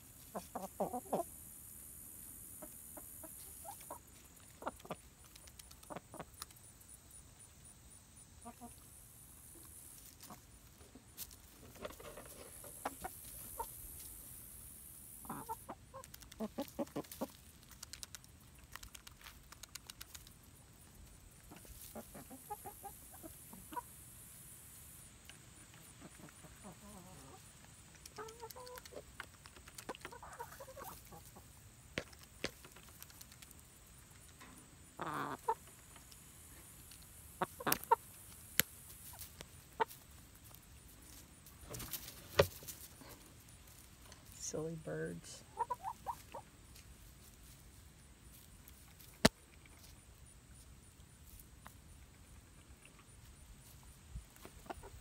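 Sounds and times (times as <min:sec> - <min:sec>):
chickens clucking softly: 0:00.1 - 0:01.6, 0:02.2 - 0:43.9, 0:45.4 - 0:55.0.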